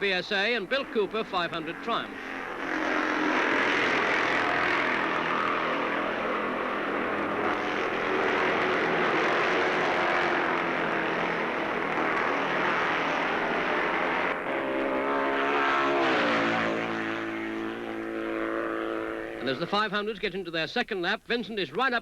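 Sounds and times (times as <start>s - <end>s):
racing motorcycles passing: 0.0s - 20.0s
single engine rising in pitch: 1.2s - 19.7s.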